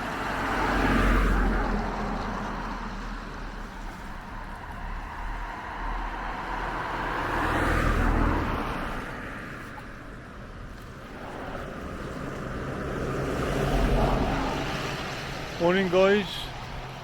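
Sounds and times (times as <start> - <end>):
car passing by: 0.0 - 17.0.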